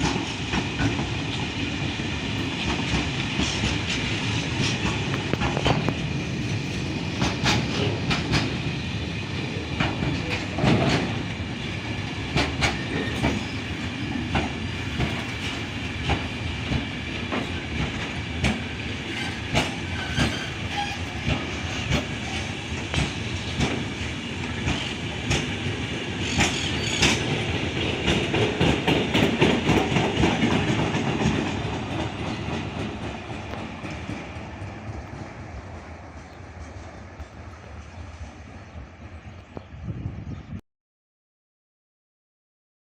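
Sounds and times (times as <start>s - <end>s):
train wheels clacking on rails: 0.0s - 39.6s.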